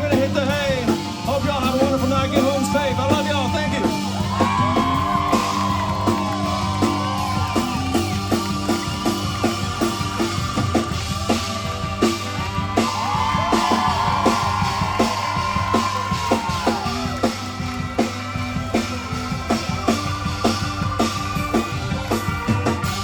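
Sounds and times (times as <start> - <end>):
bass: 0.0 - 23.0
drum kit: 0.0 - 23.0.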